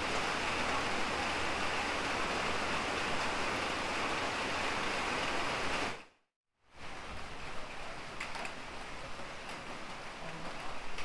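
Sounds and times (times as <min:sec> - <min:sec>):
heavy rain on grass and water: 0:00.0 - 0:06.1, 0:06.7 - 0:11.0.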